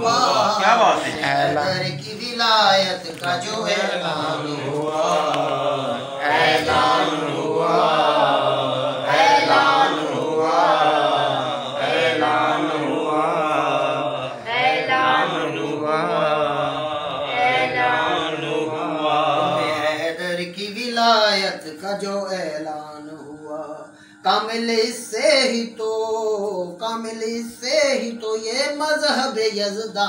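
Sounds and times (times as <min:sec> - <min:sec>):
men chanting devotional poem: 0:00.0 - 0:30.0.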